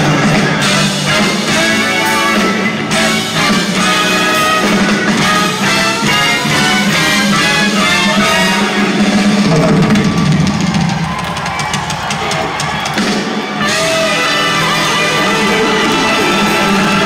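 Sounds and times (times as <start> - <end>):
saxophone and trombone riffs: 0.0 - 10.2, 13.5 - 17.0
bass guitar: 0.0 - 17.0
drums: 0.0 - 17.0.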